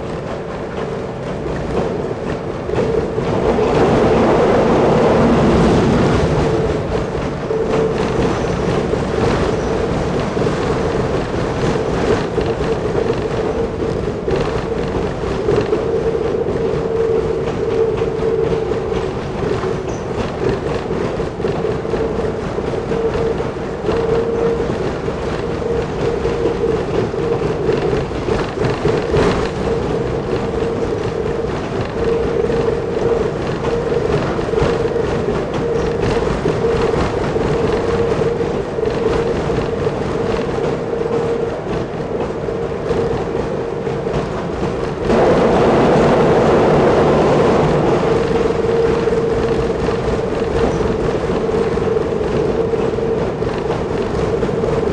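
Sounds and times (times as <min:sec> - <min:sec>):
rail bus engine drone: 0:00.0 - 0:54.9
wheel and rail noise: 0:00.0 - 0:54.9.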